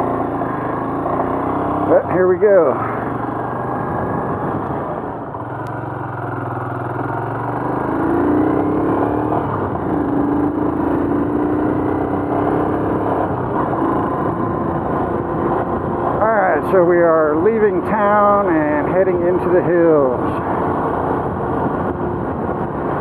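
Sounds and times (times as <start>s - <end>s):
motorcycle engine accelerating: 0.0s - 23.0s
road noise rushing: 0.0s - 23.0s.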